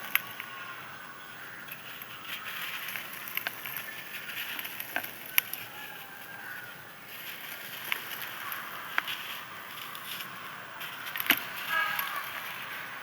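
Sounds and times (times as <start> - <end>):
sand clumps crumbling: 0.0 - 13.0.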